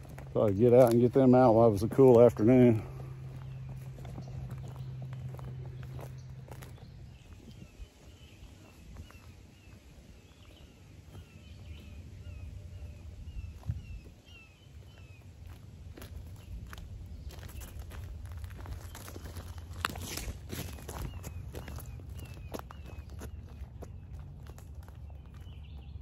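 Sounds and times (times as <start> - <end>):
bird chirping: 0.0 - 26.0
footsteps: 0.0 - 26.0
low rumble: 1.7 - 25.7.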